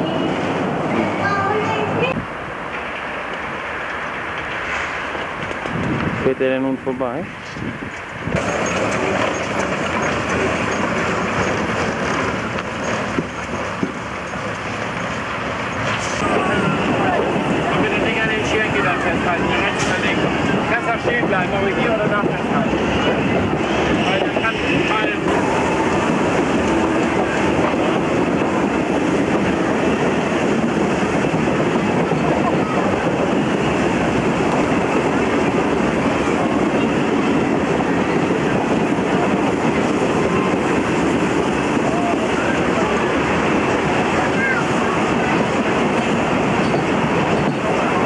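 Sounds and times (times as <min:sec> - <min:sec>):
train rushing past: 0:00.0 - 0:48.0.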